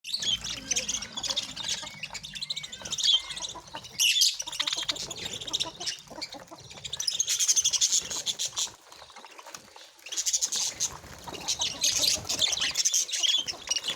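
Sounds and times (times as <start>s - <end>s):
birds chattering and chirping: 0.0s - 13.9s.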